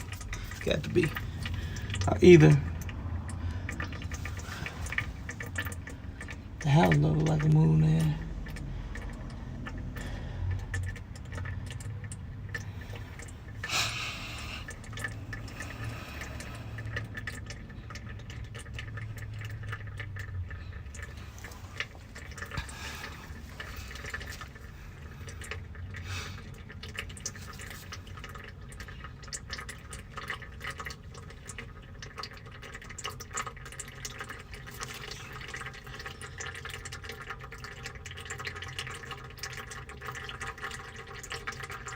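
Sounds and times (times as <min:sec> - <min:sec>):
fluid dripping: 0:00.0 - 0:41.9.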